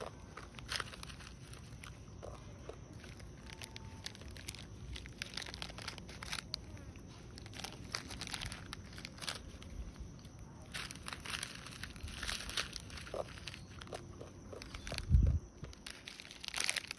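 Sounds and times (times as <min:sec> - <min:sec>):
plastic wrapper crinkling: 0:00.0 - 0:16.9.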